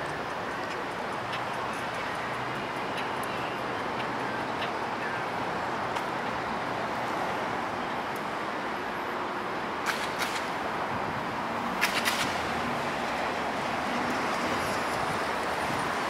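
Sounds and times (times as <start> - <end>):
city traffic hiss: 0.0 - 16.0.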